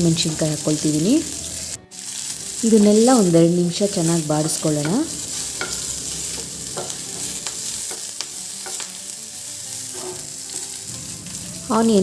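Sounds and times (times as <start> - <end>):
food sizzling in hot oil: 0.0 - 12.0
stirring in a pan: 1.9 - 11.8.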